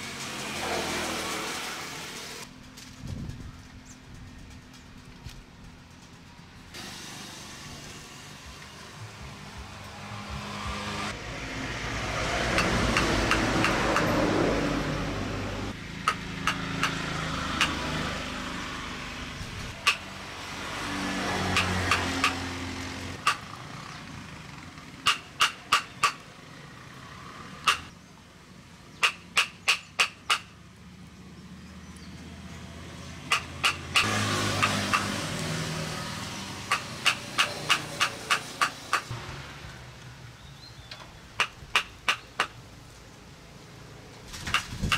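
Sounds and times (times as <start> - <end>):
vehicle passing: 0.0 - 6.0, 6.6 - 29.4, 30.3 - 44.9.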